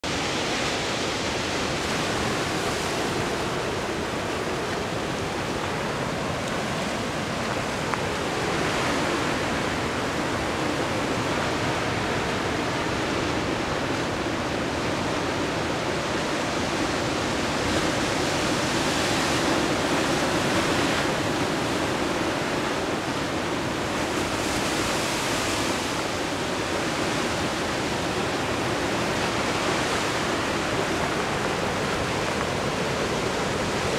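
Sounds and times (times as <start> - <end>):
ocean surf breaking on rocks: 0.0 - 33.9.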